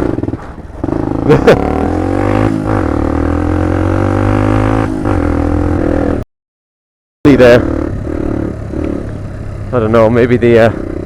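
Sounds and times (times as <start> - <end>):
moped engine running: 0.0 - 5.8, 7.3 - 11.0.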